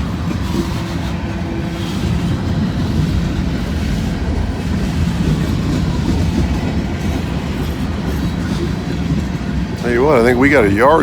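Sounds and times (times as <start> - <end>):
freight train rumbling past: 0.0 - 11.0
wheels clicking over rail joints: 0.0 - 11.0.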